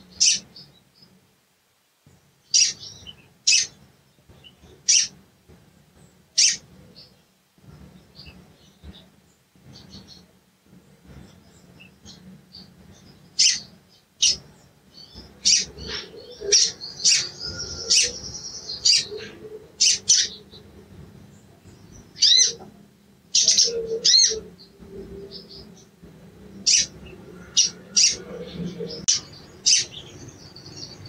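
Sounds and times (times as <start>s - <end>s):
sunbird chirping and twittering: 0.0s - 1.2s, 2.3s - 31.0s.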